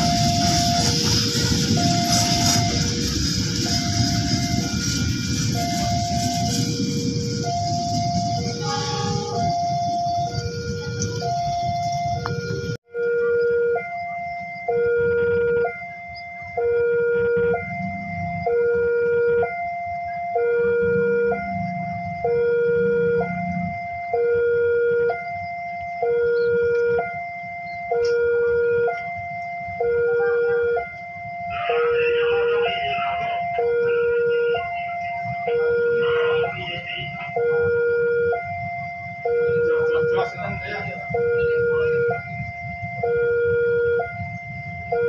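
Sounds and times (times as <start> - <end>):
level crossing alarm two-note tone: 0.0 - 45.0.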